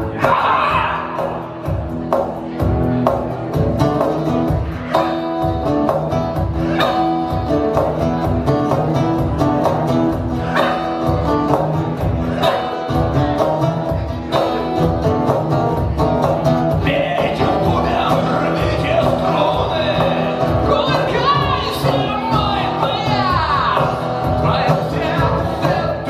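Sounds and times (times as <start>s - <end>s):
acoustic guitar strumming: 0.0s - 26.0s
beat: 0.0s - 26.0s.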